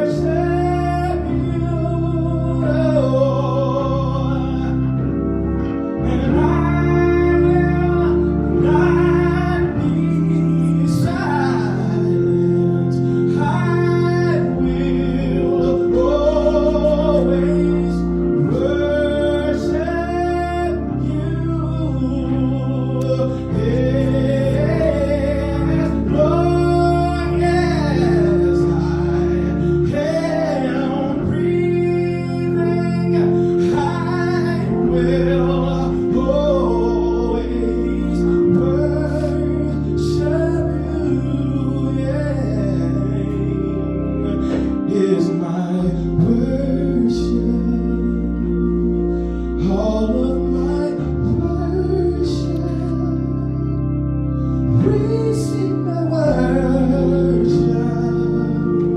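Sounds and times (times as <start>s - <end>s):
gospel singing: 0.0s - 58.9s
instrumental accompaniment with bass: 0.0s - 58.9s.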